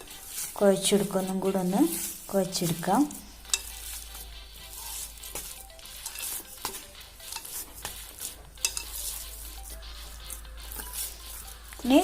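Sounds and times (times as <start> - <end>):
dough squelching and slapping: 0.0 - 12.0.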